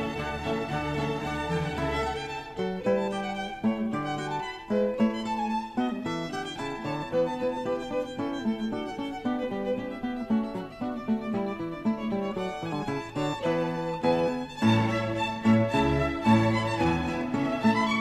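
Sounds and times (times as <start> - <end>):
violin melody: 0.0 - 18.0.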